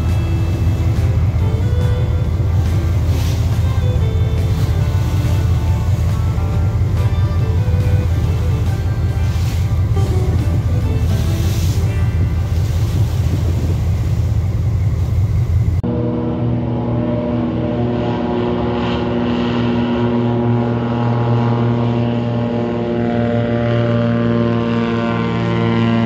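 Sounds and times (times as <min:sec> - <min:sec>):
boat engine rumble: 0:00.0 - 0:26.0
propeller plane engine droning: 0:00.0 - 0:26.0
water: 0:00.0 - 0:26.0.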